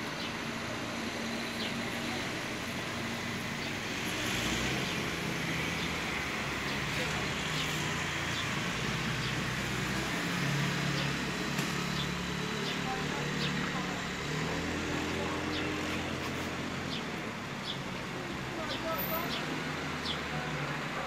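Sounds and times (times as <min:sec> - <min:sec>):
traffic hum: 0:00.0 - 0:21.0.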